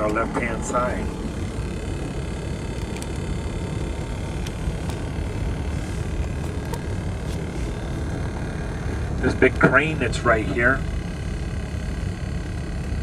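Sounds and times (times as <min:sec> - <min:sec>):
vehicle road and engine noise: 0:00.5 - 0:13.0.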